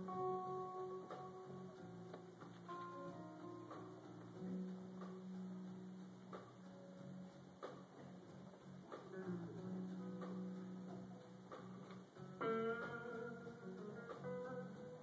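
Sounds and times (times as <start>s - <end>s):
electric guitar plucked notes: 0.0s - 15.0s.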